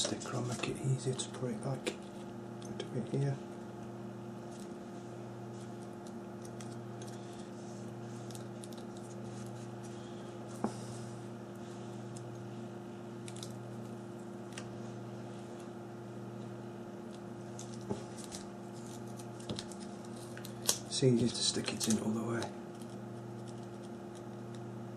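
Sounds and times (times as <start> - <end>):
low electrical hum: 0.0 - 24.9.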